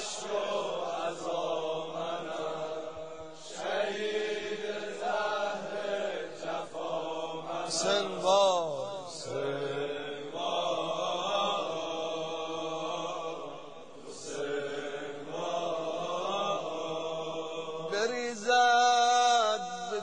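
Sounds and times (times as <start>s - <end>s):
chanted vocal drone: 0.0s - 20.0s.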